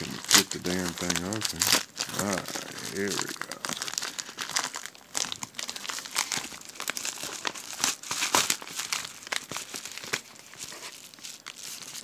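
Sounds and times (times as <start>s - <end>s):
package tearing: 0.0s - 12.0s
package wrapping crinkling: 0.0s - 12.0s.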